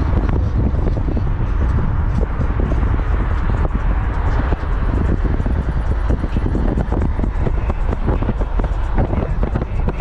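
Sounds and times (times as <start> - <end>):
loud car exhaust: 0.0 - 10.0.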